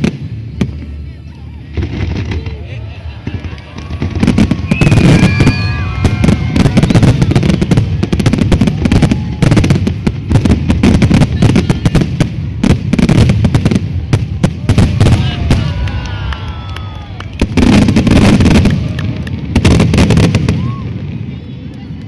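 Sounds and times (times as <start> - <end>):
fireworks bangs and booms: 0.0 - 22.0.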